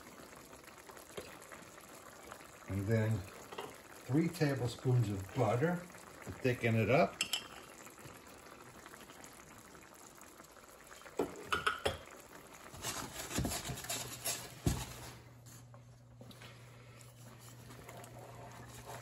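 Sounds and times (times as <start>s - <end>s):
sauce simmering in a skillet: 0.0s - 19.0s.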